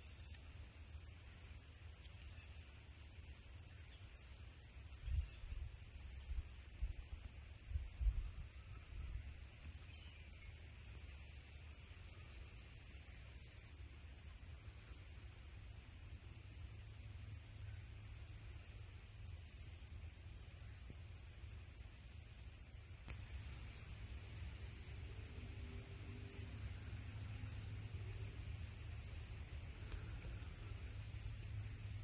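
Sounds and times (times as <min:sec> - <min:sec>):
steady high-pitched hiss: 0:00.0 - 0:32.0.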